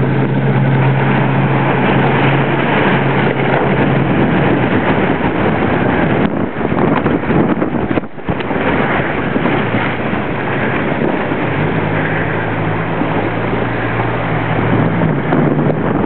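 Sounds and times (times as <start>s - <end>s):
motorboat engine hum: 0.0s - 16.0s
wind and water noise: 0.0s - 16.0s.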